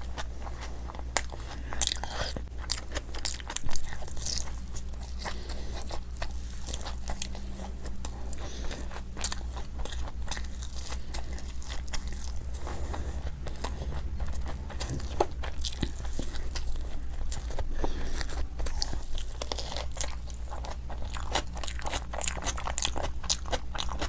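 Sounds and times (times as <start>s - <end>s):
crunchy snack chewing: 0.0s - 24.0s
steady low hum: 0.0s - 24.0s.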